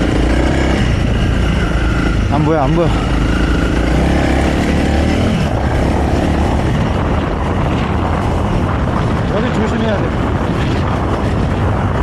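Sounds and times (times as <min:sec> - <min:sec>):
motorcycle engine slowing: 0:00.0 - 0:12.0.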